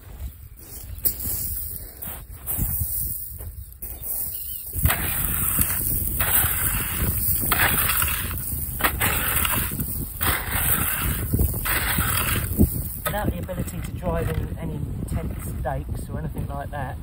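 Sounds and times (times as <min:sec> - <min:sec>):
crunching scrapes in sand: 0:00.0 - 0:16.2.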